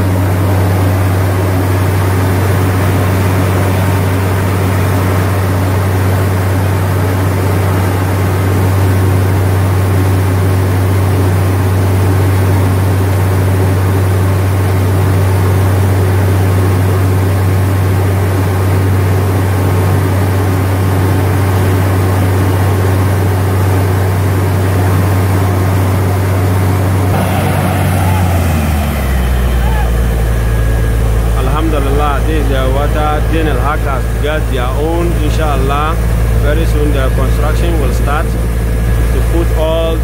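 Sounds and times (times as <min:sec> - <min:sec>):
drilling rig engine drone: 0:00.0 - 0:40.0.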